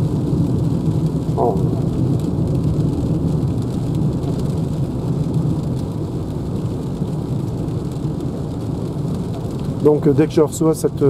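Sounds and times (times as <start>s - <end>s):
road and tyre noise on wet road: 0.0s - 11.0s.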